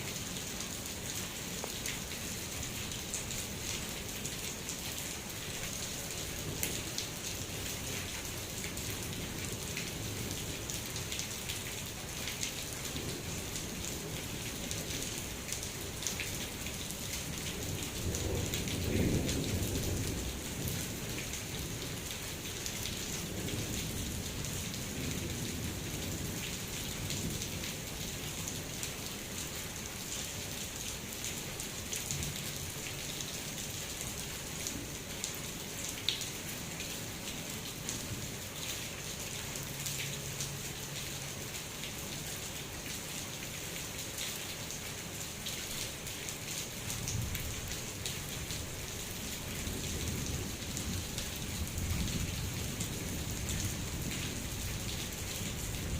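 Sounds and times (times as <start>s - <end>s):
heavy rain pattering: 0.0s - 55.9s.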